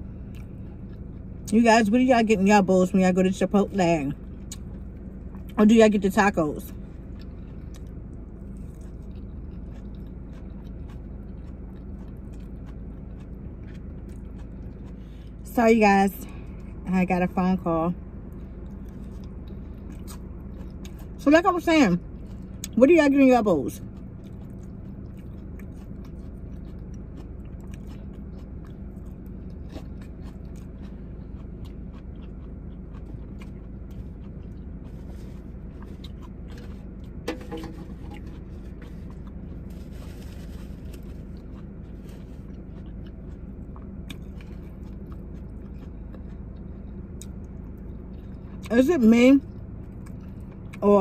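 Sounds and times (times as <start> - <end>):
person chewing food: 0.0 - 1.5, 4.2 - 5.6, 6.7 - 15.4, 18.0 - 21.2, 22.0 - 22.8, 23.8 - 48.7, 49.4 - 50.8
low hum: 0.0 - 51.0.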